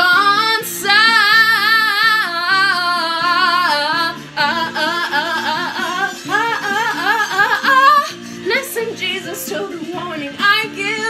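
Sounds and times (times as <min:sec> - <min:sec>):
karaoke backing track: 0:00.0 - 0:11.0
woman singing with vibrato: 0:00.0 - 0:11.0.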